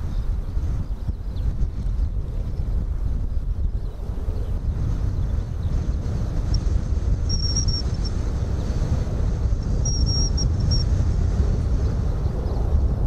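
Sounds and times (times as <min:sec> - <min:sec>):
wind buffeting microphone: 0:00.0 - 0:13.0
jet aircraft flying by: 0:01.6 - 0:13.0.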